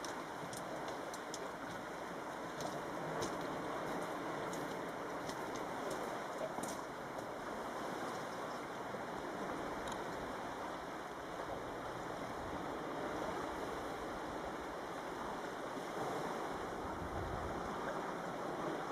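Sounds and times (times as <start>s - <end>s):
small waves on pebble beach: 0.0s - 18.9s.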